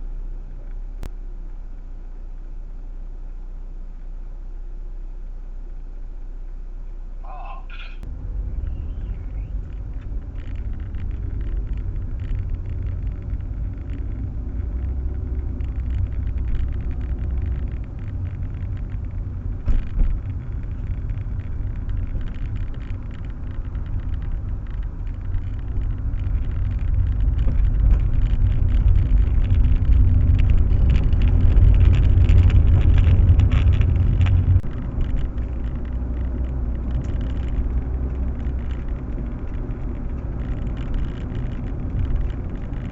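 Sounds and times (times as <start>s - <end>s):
car engine and road rumble: 0.0s - 42.9s.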